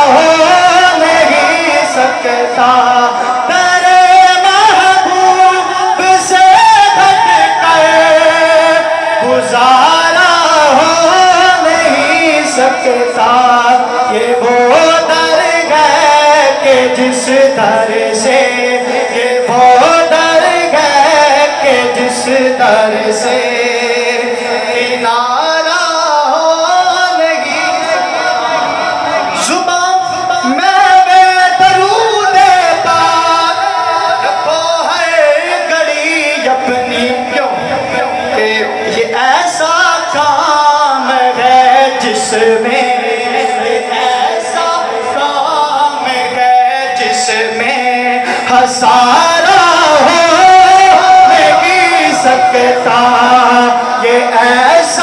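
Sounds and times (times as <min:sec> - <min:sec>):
man singing into microphone: 0:00.0 - 0:55.0.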